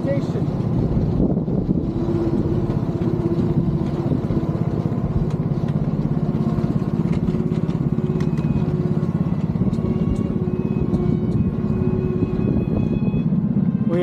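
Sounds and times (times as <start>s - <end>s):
small diesel locomotive engine: 0.0s - 14.0s.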